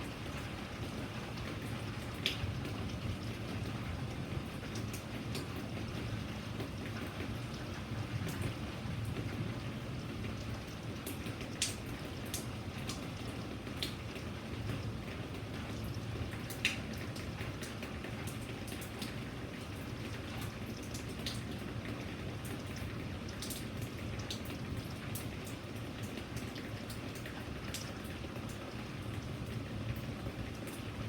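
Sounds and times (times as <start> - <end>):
rain drops ticking on hard surface: 0.0 - 31.0.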